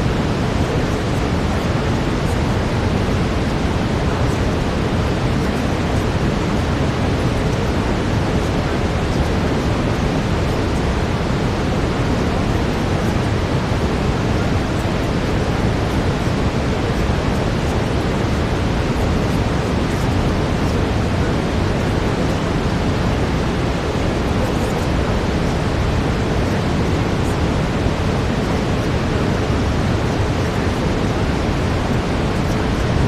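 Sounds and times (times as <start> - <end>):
brown noise hiss: 0.0 - 33.0.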